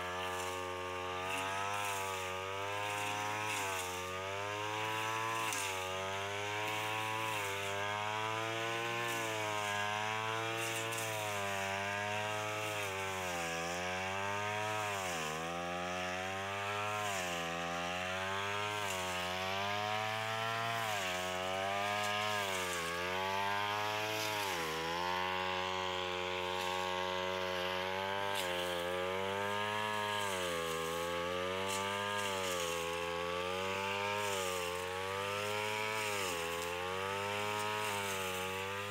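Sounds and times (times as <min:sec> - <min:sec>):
brush cutter engine cutting grass: 0:00.0 - 0:38.9.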